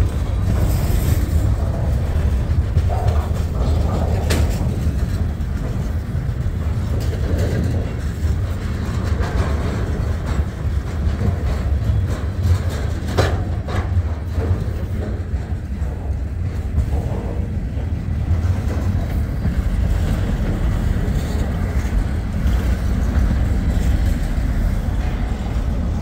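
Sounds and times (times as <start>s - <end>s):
freight train wheels rumbling: 0.0s - 26.0s
sharp train clacks: 0.0s - 26.0s.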